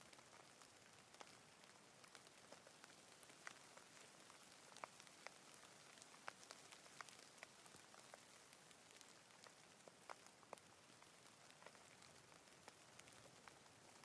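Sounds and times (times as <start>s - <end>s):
light rain: 0.0s - 14.0s
raindrops landing: 0.0s - 14.0s.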